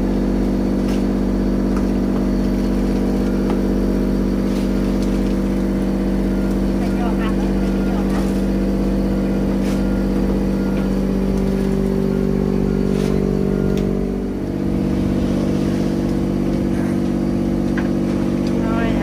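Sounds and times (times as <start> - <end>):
motor engine running: 0.0 - 19.0.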